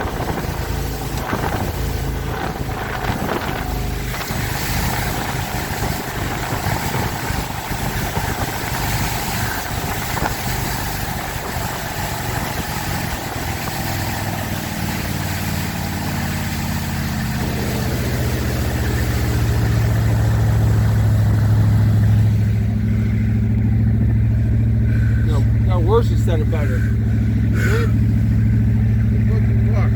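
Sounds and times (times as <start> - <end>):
wind and water rushing: 0.0 - 29.6
boat engine drone: 0.0 - 29.9.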